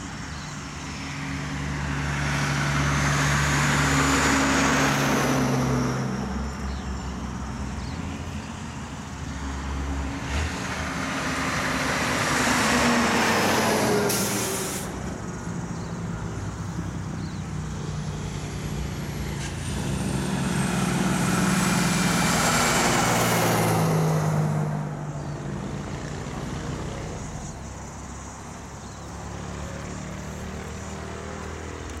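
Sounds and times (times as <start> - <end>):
diesel truck passing: 0.0 - 32.0.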